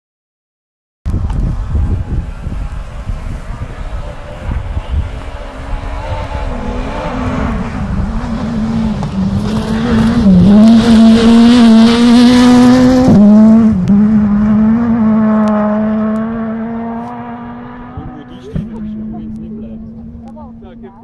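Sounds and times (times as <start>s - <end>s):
rally car engine passing at speed: 1.5s - 21.0s.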